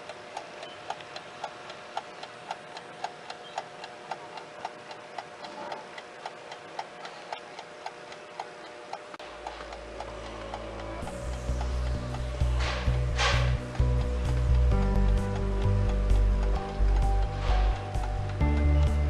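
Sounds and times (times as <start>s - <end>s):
alarm clock ticking: 2.2s - 19.0s.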